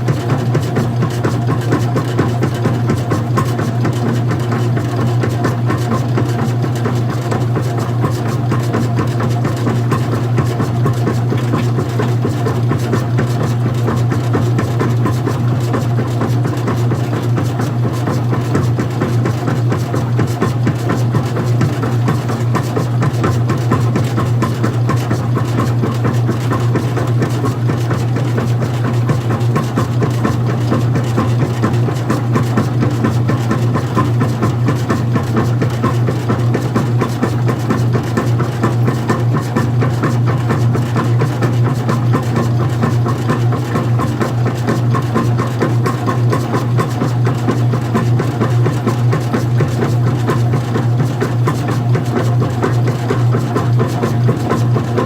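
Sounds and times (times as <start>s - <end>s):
washing machine humming: 0.0s - 55.0s
washing machine rattling: 0.0s - 55.0s.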